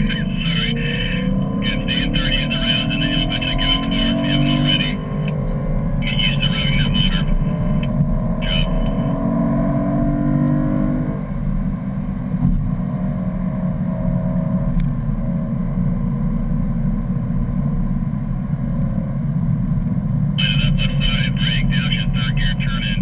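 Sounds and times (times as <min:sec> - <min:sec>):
car engine at speed: 0:00.0 - 0:23.0.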